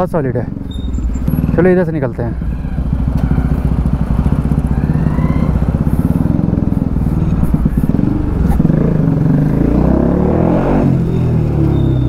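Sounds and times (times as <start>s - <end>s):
motorcycle engine exhaust note: 0.5s - 12.0s.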